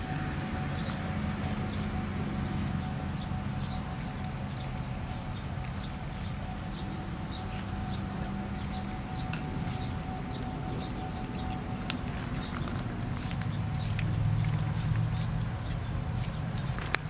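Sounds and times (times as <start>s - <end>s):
low rumble with hum: 0.0s - 17.0s
bird chirping: 0.5s - 17.0s.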